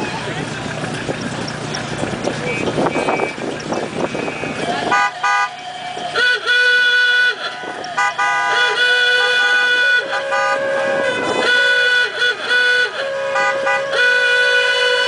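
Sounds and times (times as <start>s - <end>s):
car horns honking: 0.0s - 15.0s.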